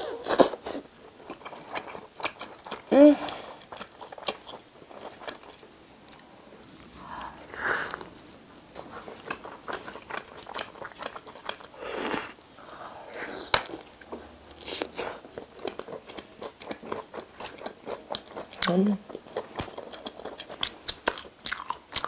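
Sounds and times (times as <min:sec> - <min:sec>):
chewing pizza crunchy crackles: 0:00.2 - 0:11.8, 0:13.3 - 0:22.0.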